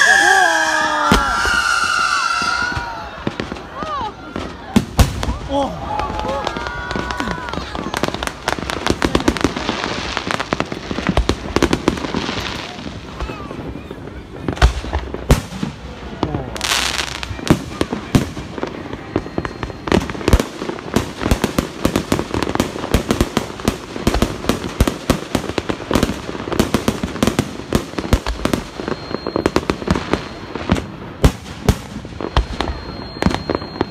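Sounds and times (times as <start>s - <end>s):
fireworks bangs and crackle: 0.0s - 33.9s.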